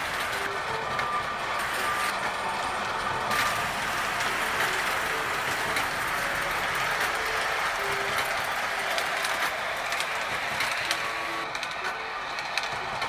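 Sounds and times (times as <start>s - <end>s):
clicks at rail joints: 0.0s - 13.0s
toy train motors whirring: 0.0s - 13.0s.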